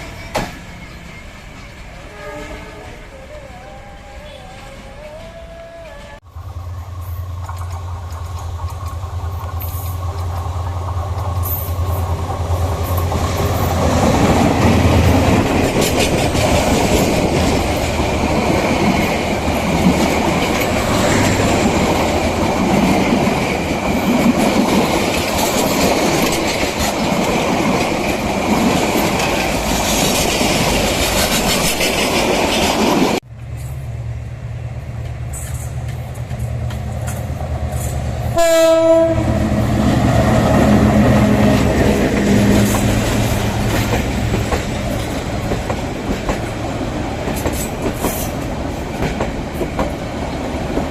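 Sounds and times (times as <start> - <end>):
train carriages rolling: 0.0 - 34.1, 34.8 - 50.9.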